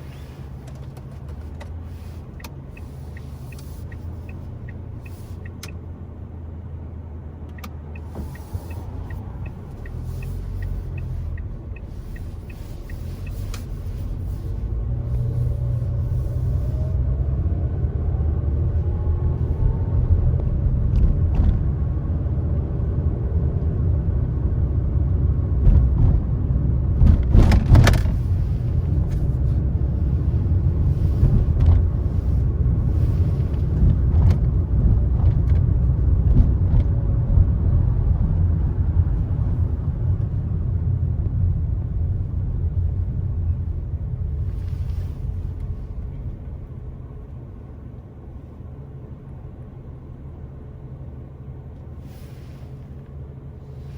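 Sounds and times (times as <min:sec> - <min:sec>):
car tyres and engine rumble: 0:00.0 - 0:53.9.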